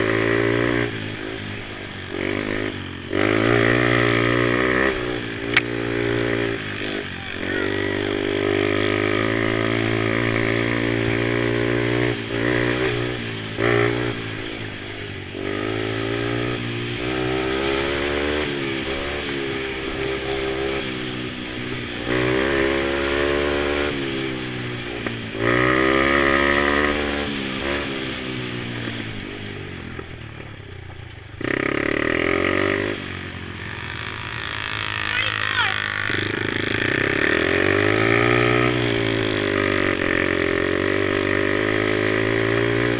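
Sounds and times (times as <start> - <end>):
quad engines racing: 0.0 - 42.9.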